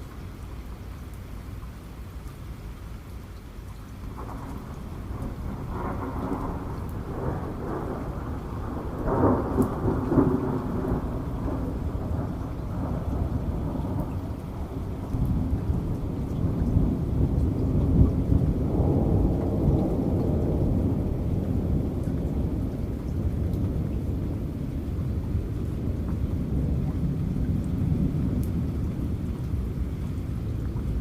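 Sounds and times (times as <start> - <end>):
steady rain: 0.0 - 31.0
rolling thunder: 4.1 - 31.0.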